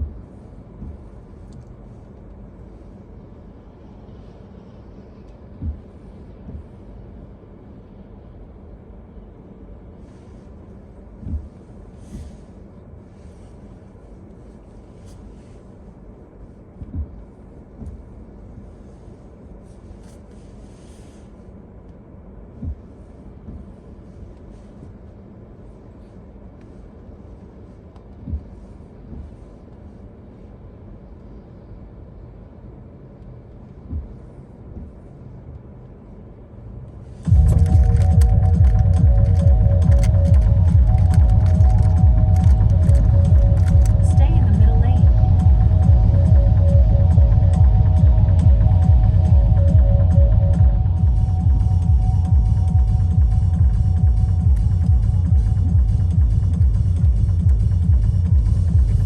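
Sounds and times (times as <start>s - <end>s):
vehicle rumble: 0.0s - 59.0s.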